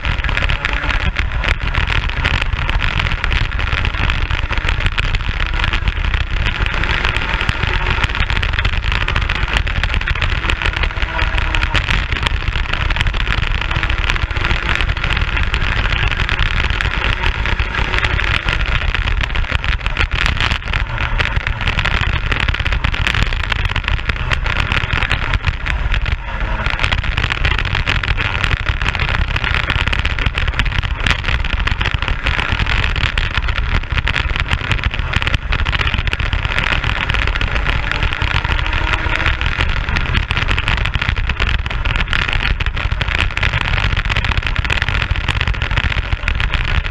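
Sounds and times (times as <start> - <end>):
racing kart engine: 0.0 - 46.9
wind noise on microphone: 0.0 - 46.9.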